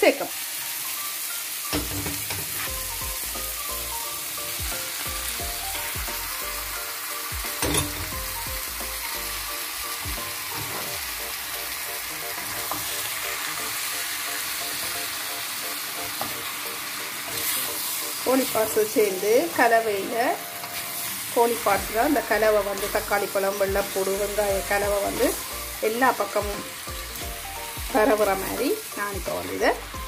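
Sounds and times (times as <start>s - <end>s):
vegetables sizzling in a wok: 0.0s - 30.0s.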